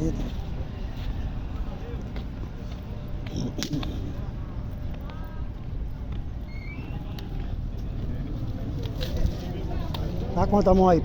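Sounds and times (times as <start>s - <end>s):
faint crowd voices: 0.0s - 11.0s.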